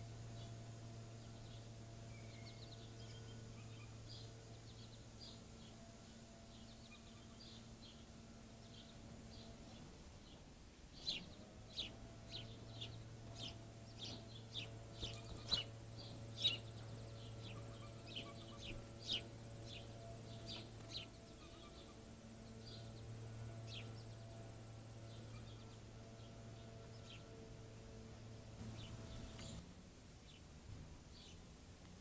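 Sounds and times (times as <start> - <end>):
songbird chip notes: 0.0 - 29.6.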